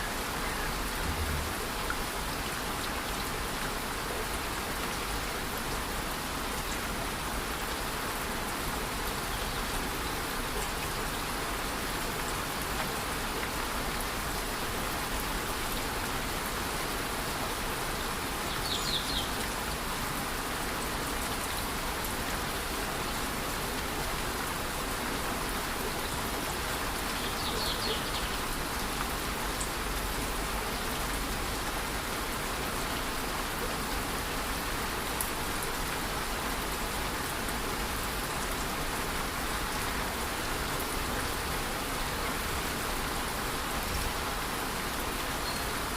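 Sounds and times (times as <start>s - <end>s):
light rain falling: 0.0s - 45.9s.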